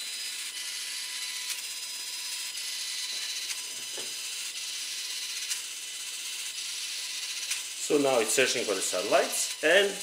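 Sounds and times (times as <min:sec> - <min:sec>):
servos whirring and ticking: 0:00.0 - 0:10.0.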